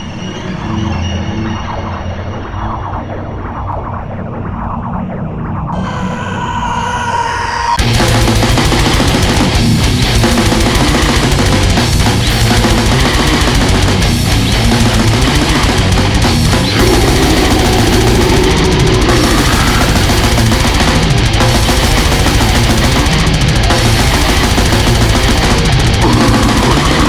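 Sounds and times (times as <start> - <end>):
heavy metal music: 0.0 - 27.0.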